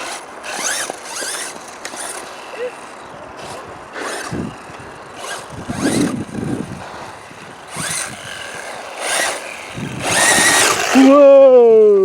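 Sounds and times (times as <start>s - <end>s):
tyres scrabbling on dirt: 0.0s - 11.2s
electric motor whining: 0.0s - 11.5s.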